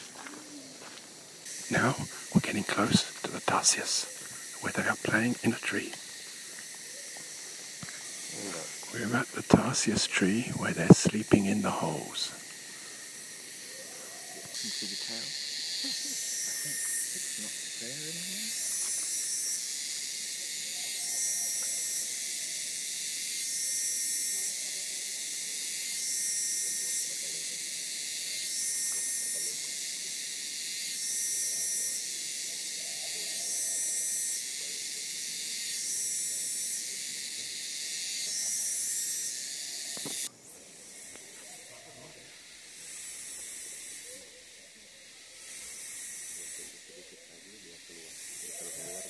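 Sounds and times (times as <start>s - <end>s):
high-pitched buzzing forest chorus: 0.0s - 49.0s.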